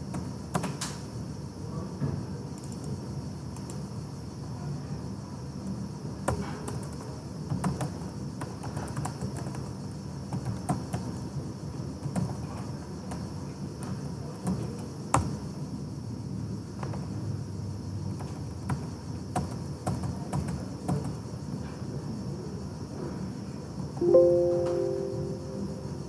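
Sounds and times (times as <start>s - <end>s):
background hiss and hum: 0.0s - 26.0s.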